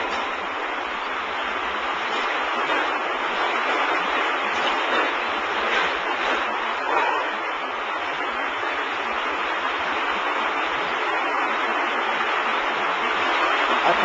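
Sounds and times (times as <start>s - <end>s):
conveyor running: 0.0s - 14.0s.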